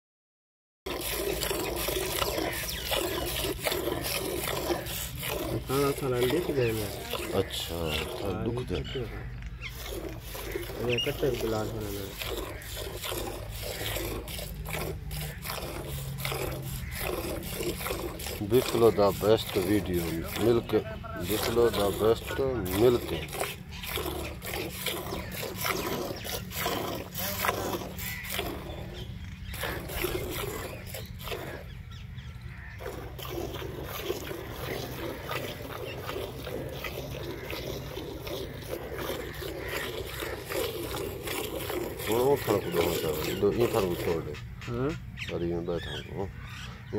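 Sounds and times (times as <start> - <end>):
milk squirting into steel bucket: 0.9 - 44.6
steady low hum: 0.9 - 46.9.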